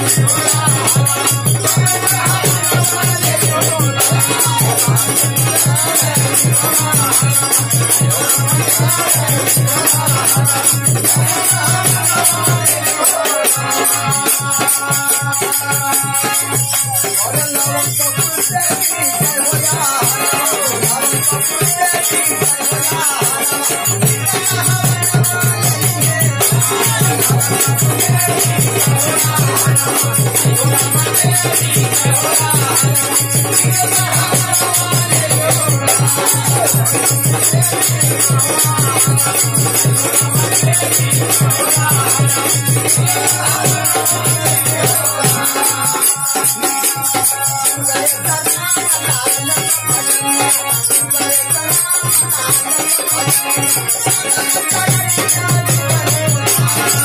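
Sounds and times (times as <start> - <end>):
dholak drum rhythm: 0.0 - 57.0
harmonium melody: 0.0 - 57.0
jingling hand percussion: 0.0 - 57.0.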